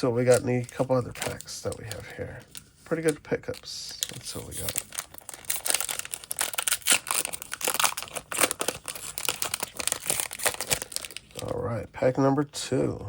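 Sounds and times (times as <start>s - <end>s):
wrapper crinkling: 0.1s - 11.6s.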